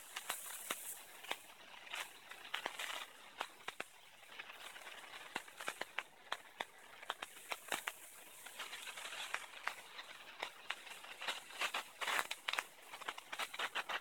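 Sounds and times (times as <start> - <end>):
faint hiss: 0.0 - 14.0
firecrackers popping: 0.0 - 14.0.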